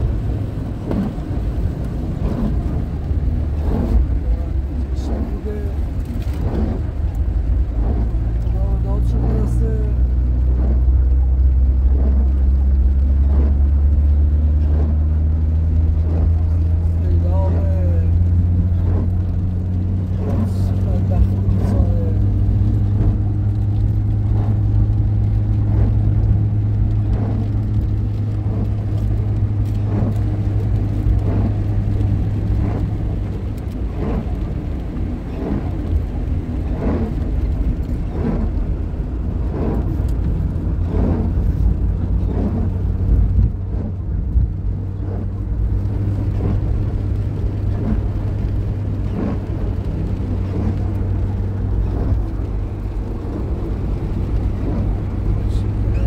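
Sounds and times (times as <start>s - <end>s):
motor engine humming: 0.0s - 56.0s.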